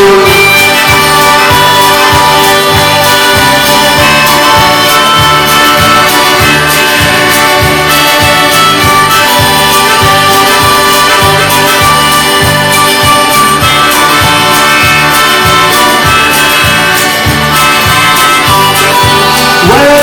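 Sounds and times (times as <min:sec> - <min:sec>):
folk band playing: 0:00.0 - 0:20.0.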